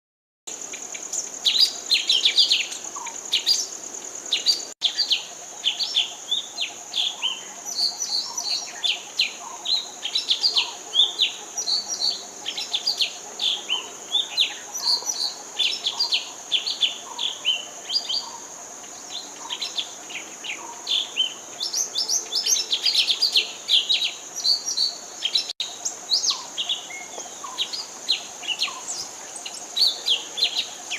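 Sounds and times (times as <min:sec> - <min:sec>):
songbirds chirping: 0:00.5 - 0:30.9.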